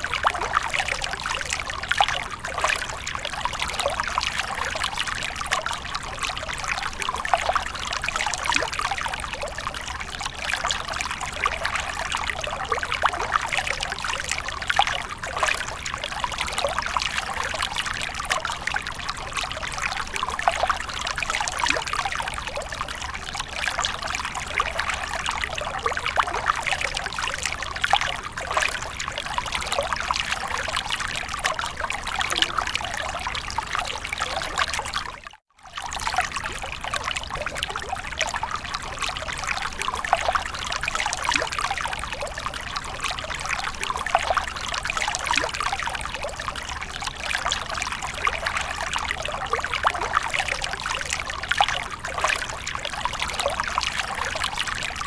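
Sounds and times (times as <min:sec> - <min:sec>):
water splashing and trickling: 0:00.0 - 0:55.0.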